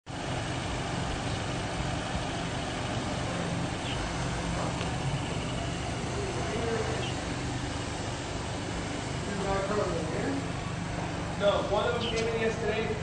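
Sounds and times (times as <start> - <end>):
car engine idling: 0.0 - 13.0
outdoor hiss: 0.1 - 13.0.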